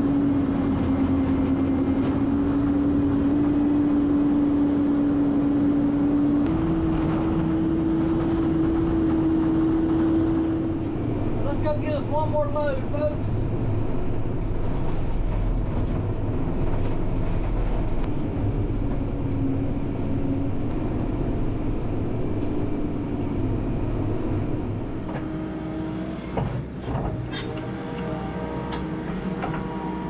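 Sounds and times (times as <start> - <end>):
heavy equipment engine running: 0.0 - 30.0.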